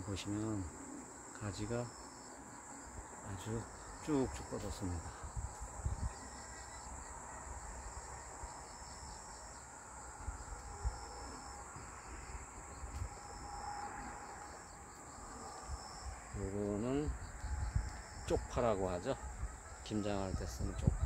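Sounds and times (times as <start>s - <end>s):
insects trilling: 0.0s - 21.0s
pulsing insect chirp: 0.0s - 21.0s.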